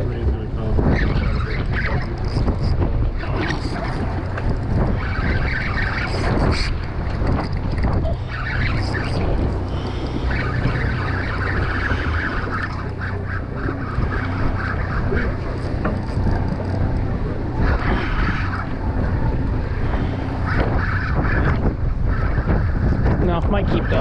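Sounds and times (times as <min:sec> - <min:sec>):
boat engine humming: 0:00.0 - 0:24.0
waves sloshing against hull: 0:00.0 - 0:24.0
wind buffeting microphone: 0:00.0 - 0:24.0.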